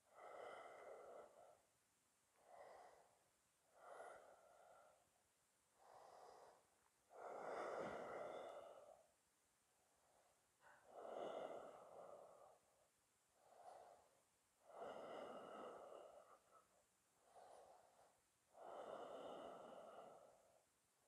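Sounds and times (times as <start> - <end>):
person breathing slowly: 0.0 - 9.2, 9.8 - 20.8.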